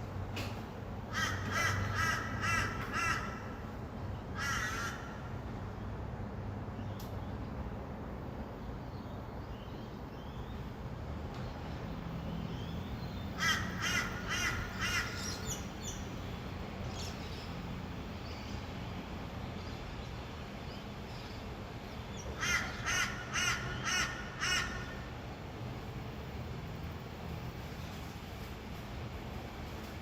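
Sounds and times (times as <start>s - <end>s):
distant city traffic rumble: 0.0s - 30.0s.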